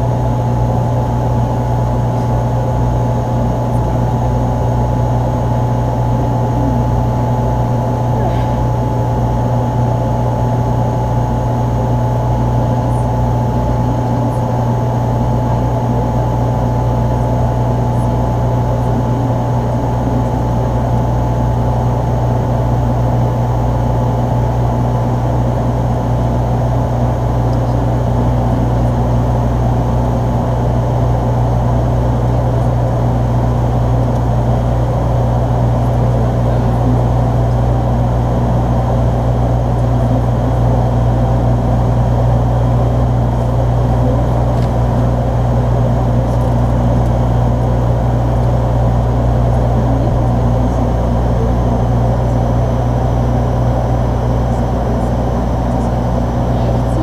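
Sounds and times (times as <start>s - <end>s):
turboprop engines droning in cabin: 0.0s - 57.0s.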